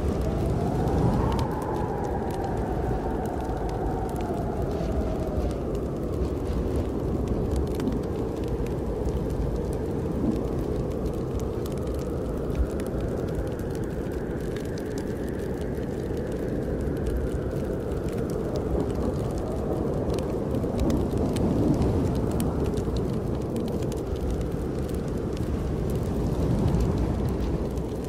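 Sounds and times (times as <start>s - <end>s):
snowstorm wind blowing: 0.0s - 28.0s
wood fire crackling: 0.0s - 28.0s.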